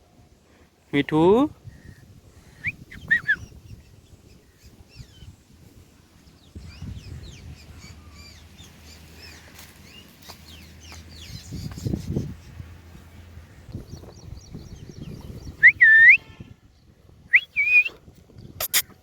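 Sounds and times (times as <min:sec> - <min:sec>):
birds chirping: 0:01.9 - 0:17.9.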